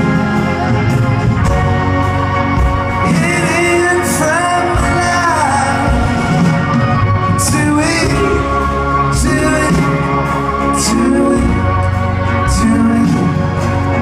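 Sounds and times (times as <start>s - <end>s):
acoustic guitar: 0.0s - 14.0s
drums: 0.0s - 14.0s
person singing: 0.0s - 14.0s.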